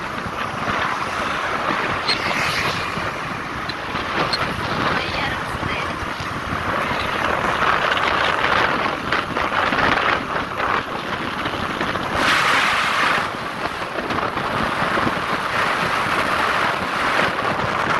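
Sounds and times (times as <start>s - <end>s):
vehicle rumble: 0.0s - 17.9s
wind buffeting microphone: 0.0s - 17.9s.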